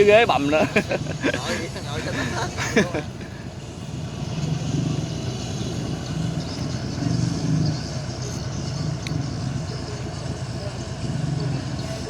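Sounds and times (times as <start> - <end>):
boat engine throbbing: 0.0 - 12.0.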